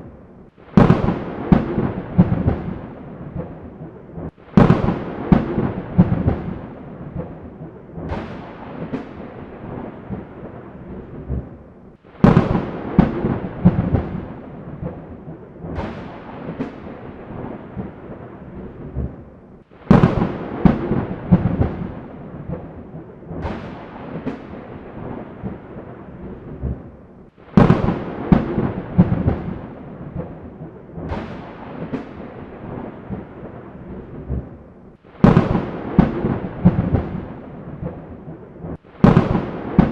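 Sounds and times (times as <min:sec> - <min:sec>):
thunder crashes: 0:00.7 - 0:11.6, 0:12.2 - 0:39.9.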